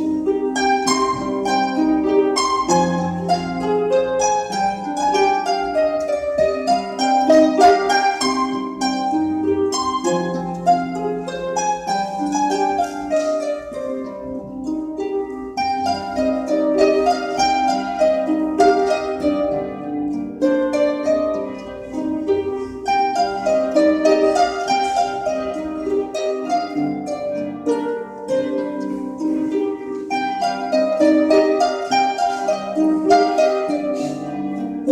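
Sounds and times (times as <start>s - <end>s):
harps plucking: 0.0s - 34.9s.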